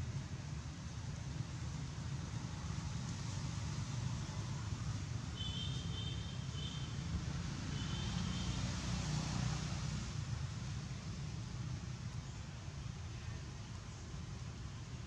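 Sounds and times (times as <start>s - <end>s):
constant hiss: 0.0s - 15.0s.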